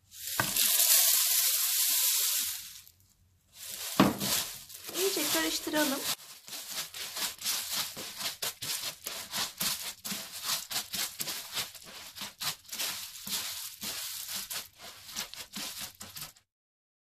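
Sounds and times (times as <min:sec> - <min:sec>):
wooden spoon scraping cornflakes in pan: 0:00.1 - 0:16.4.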